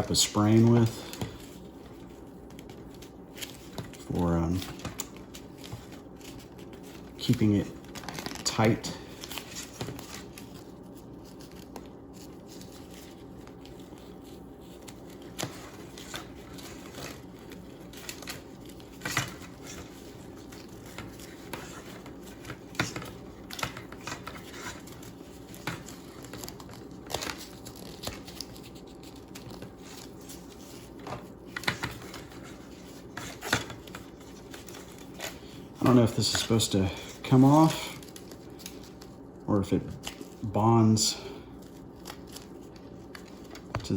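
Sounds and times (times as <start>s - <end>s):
elastic bandage rustling and crinkling: 0.0s - 43.9s
steady low hum: 0.0s - 43.9s.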